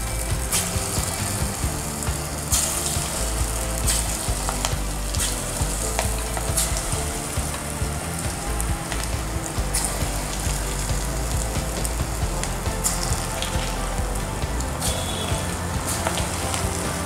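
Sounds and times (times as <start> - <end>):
sharp oil crackles: 0.0 - 17.0.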